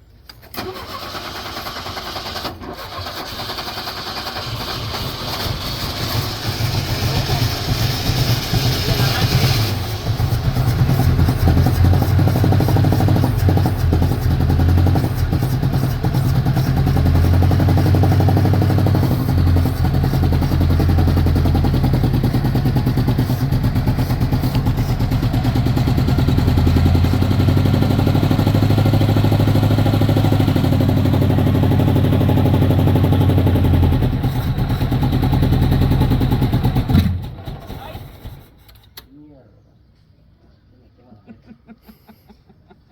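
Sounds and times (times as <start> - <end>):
car engine running rough: 3.2 - 38.5.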